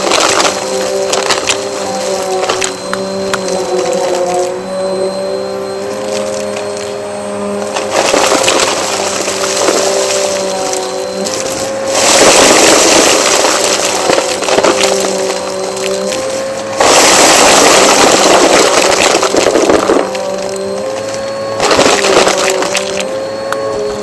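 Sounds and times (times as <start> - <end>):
debris crackling in vacuum: 0.0 - 24.0
vacuum cleaner motor whine: 0.0 - 24.0.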